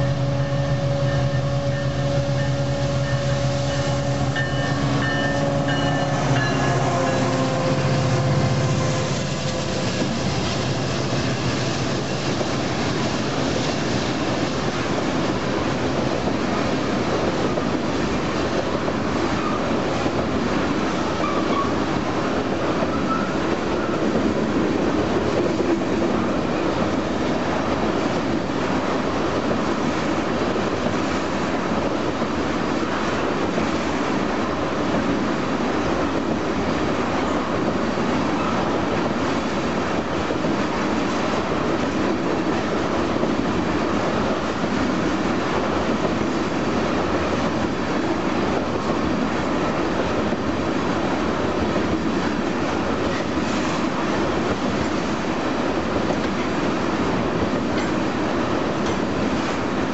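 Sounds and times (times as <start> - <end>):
diesel locomotive engine drone: 0.0 - 59.9
train wheels rolling on rails: 0.0 - 59.9.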